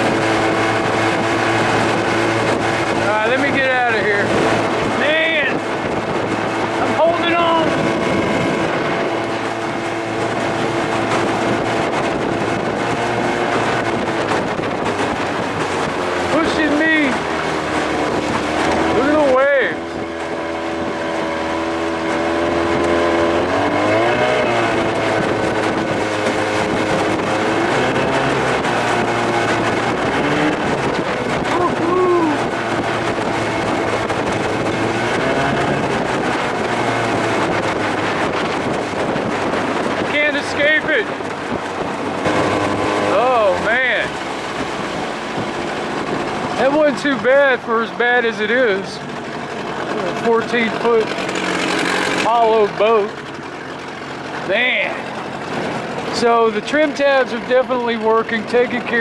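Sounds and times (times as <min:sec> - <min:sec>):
hull slapping on water: 0:00.0 - 0:59.0
outboard motor running: 0:00.0 - 0:59.0
wind noise: 0:00.0 - 0:59.0.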